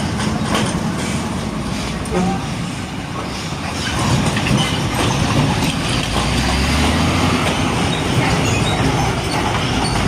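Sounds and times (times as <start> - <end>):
heavy trucks passing: 0.0 - 10.0.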